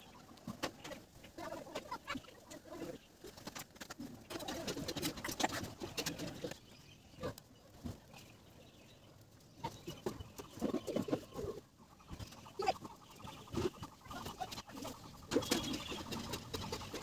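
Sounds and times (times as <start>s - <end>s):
insulated wires clicking and rustling: 0.0s - 8.4s, 9.2s - 17.0s
birds calling: 0.0s - 17.0s.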